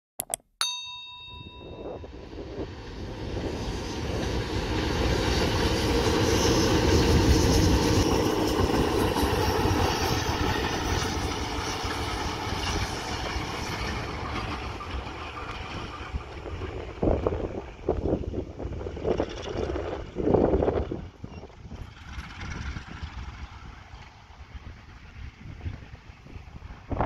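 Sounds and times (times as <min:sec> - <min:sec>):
train wheels rumbling on rail: 0:02.2 - 0:27.0.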